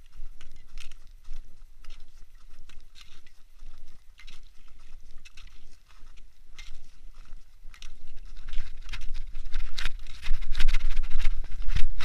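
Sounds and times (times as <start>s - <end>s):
footsteps crunching on snow: 0.0s - 12.0s.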